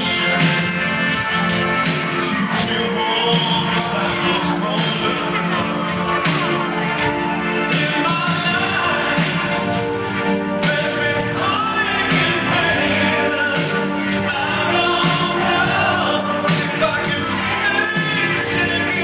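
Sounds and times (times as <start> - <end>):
lead singer: 0.0 - 19.0
live rock band playing: 0.0 - 19.0.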